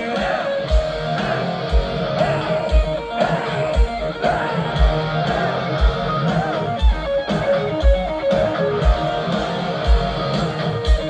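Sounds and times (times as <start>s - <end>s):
distorted electric guitars: 0.0s - 11.0s
heavy drum beat: 0.0s - 11.0s.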